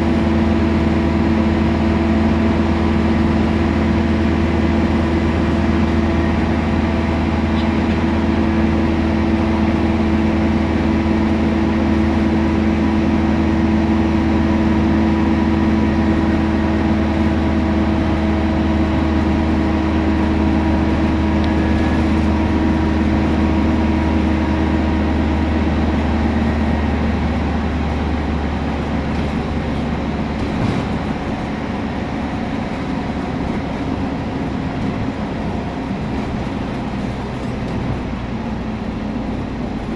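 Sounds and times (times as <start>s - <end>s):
bus engine drone: 0.0s - 39.9s
whining drivetrain: 0.0s - 39.9s.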